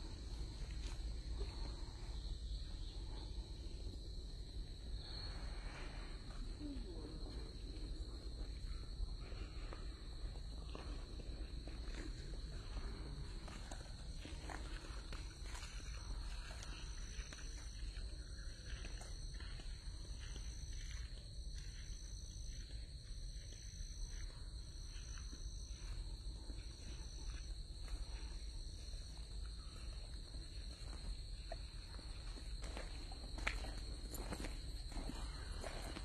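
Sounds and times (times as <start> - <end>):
footsteps on path: 0.0 - 2.3, 8.6 - 36.0
higher insect call: 0.0 - 36.0
insect steady high drone: 0.0 - 36.0.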